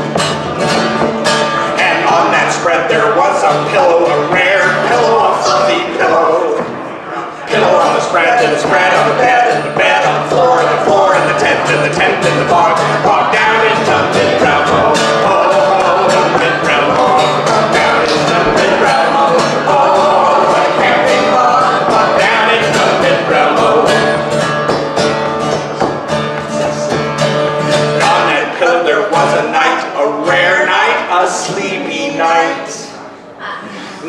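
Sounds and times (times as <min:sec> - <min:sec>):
acoustic guitar strumming: 0:00.0 - 0:33.1
man and woman singing: 0:01.7 - 0:24.5, 0:28.0 - 0:32.9.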